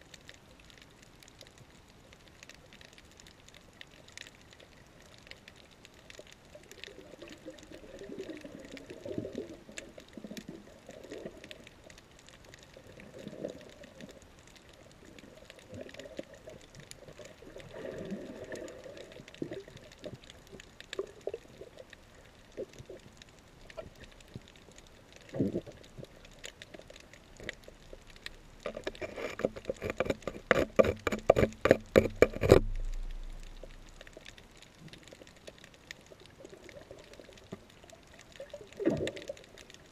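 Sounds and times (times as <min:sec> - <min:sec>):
faint crackle: 0:00.0 - 0:39.9
muffled underwater water surges: 0:00.0 - 0:39.9.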